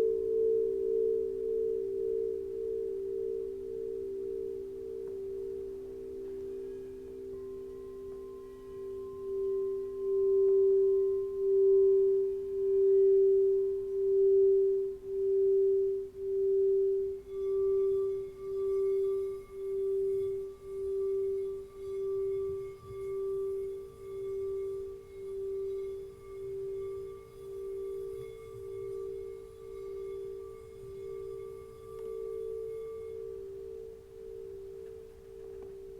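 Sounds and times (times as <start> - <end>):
higher singing bowl tone: 0.0 - 35.9
singing bowl tones: 0.0 - 35.9.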